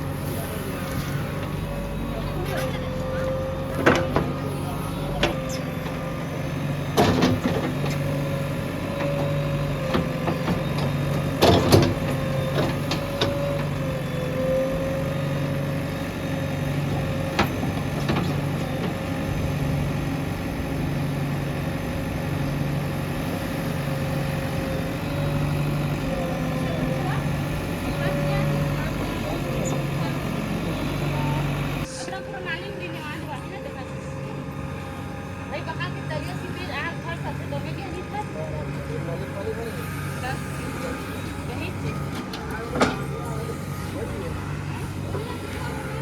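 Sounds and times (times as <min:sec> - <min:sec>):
backhoe diesel engine running: 0:00.0 - 0:46.0.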